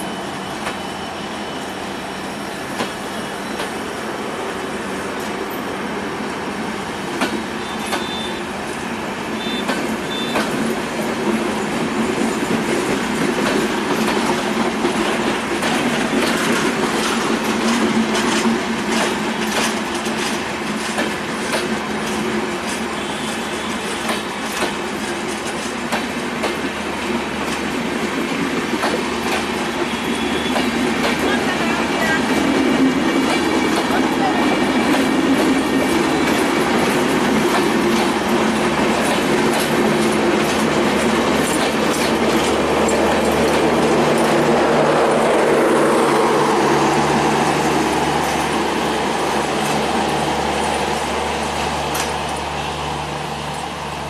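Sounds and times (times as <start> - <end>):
train wheels rumbling and clicking: 0.0 - 1.0, 2.5 - 54.0.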